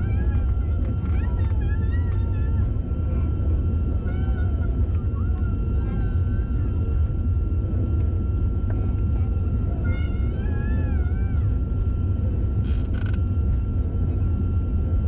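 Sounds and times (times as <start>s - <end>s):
jet engine rumble and whine: 0.0s - 15.0s.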